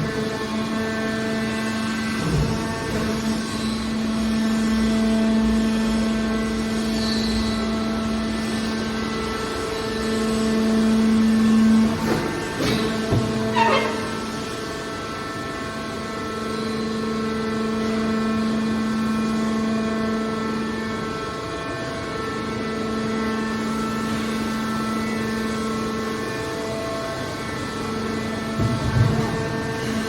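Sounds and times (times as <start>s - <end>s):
hydraulic machine hum: 0.0s - 30.0s.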